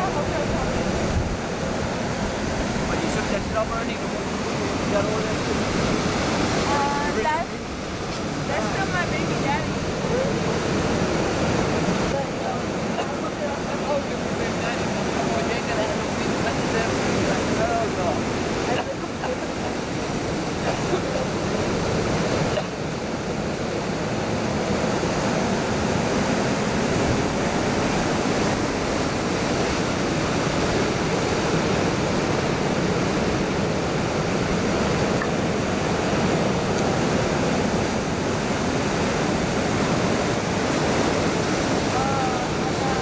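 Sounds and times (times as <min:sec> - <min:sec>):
ocean surf breaking: 0:00.0 - 0:43.0.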